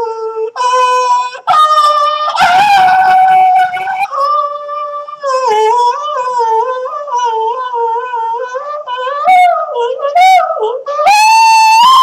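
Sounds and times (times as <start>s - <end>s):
high-pitched voice singing: 0.0s - 12.0s.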